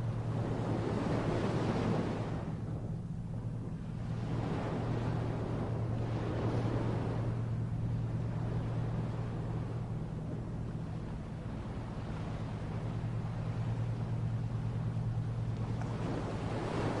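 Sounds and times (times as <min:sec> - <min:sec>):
motor humming: 0:00.0 - 0:17.0
surf: 0:00.0 - 0:17.0
wind noise on microphone: 0:00.0 - 0:17.0.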